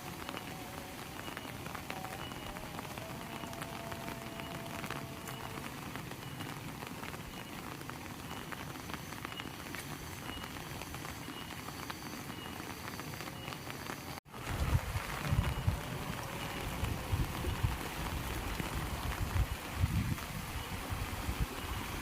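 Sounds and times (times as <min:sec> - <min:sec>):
heavy rain hissing: 0:00.0 - 0:22.0
patter of raindrops: 0:00.0 - 0:22.0.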